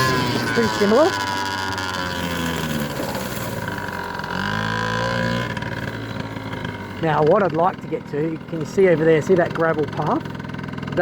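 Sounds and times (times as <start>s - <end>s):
two-stroke scooter engine: 0.0s - 11.0s.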